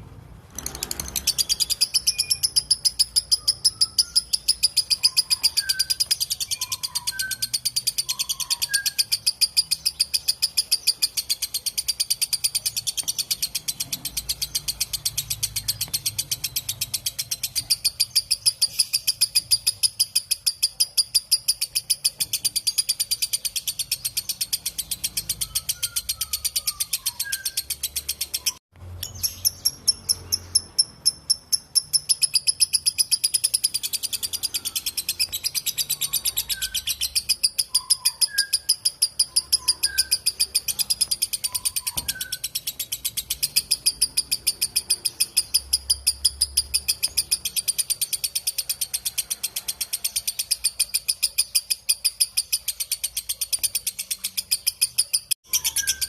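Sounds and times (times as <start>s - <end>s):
lovebird shrill chatter: 0.5s - 30.8s, 31.7s - 56.0s
faint bird chirps: 0.6s - 56.0s.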